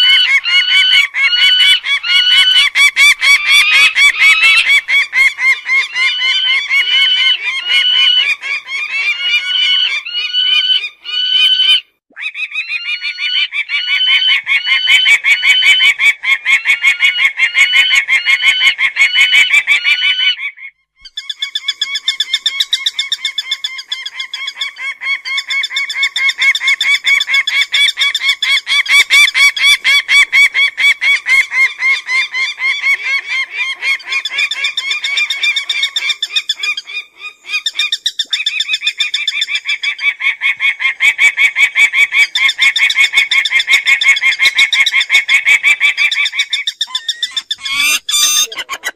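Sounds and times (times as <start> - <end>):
falcon calling: 0.0 - 48.9.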